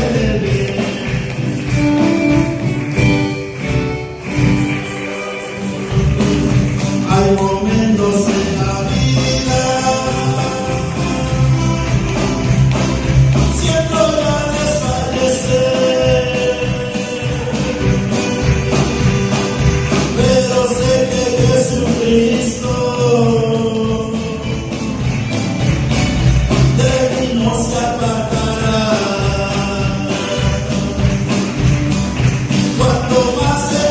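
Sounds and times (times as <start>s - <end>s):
band accompaniment: 0.0s - 33.9s
jingling percussion: 0.0s - 33.9s.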